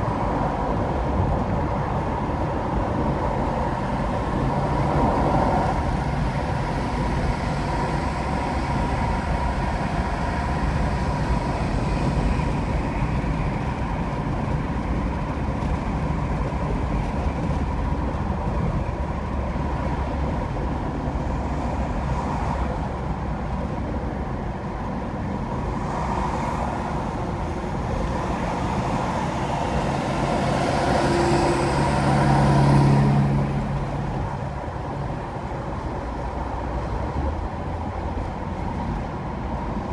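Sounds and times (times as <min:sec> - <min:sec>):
car tyre and engine noise: 0:00.0 - 0:39.9.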